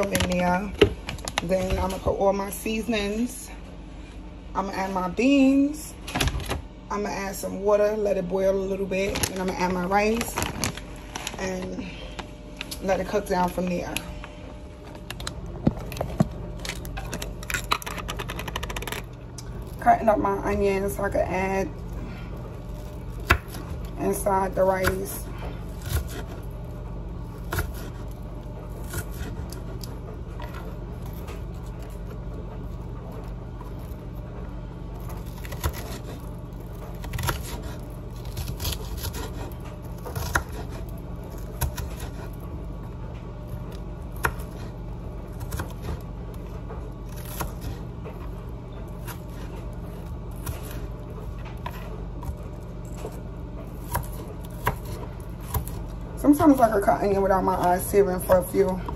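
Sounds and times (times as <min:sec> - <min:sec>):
low hum: 0:00.0 - 0:58.9.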